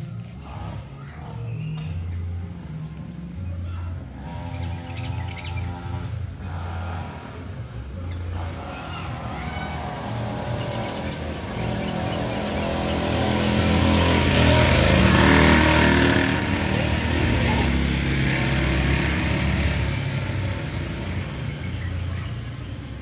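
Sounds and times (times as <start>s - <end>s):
vehicle engine passing by: 0.0s - 23.0s.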